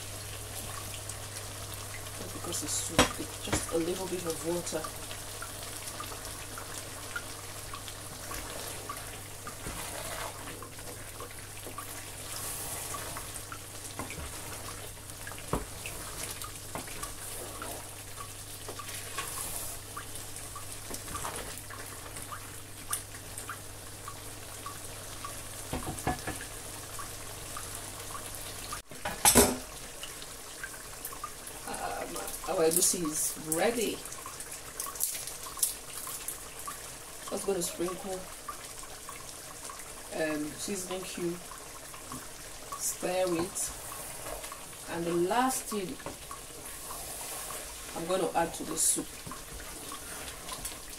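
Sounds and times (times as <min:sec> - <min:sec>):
soup bubbling: 0:00.0 - 0:50.9.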